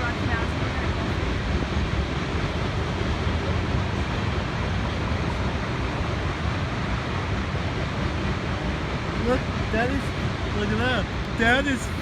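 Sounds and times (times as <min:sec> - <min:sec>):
moving vehicle rumbling: 0:00.0 - 0:12.0
wind buffeting microphone: 0:00.0 - 0:12.0.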